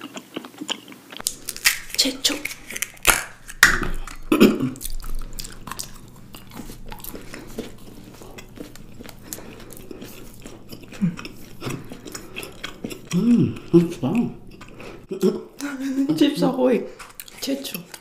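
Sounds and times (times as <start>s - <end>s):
wet chewing clicks and smacks: 0.0s - 15.8s, 16.9s - 18.0s.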